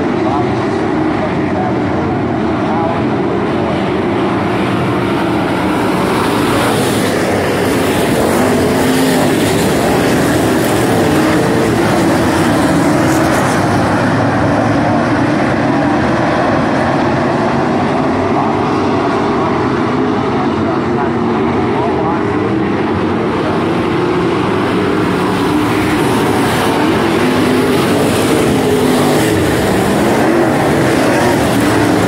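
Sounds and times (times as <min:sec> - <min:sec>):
race car engines roaring: 0:00.0 - 0:32.0.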